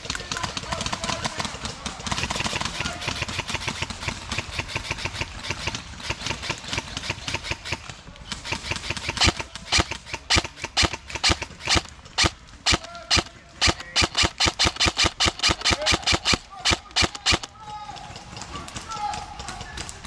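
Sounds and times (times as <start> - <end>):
airsoft guns firing: 0.0 - 20.0.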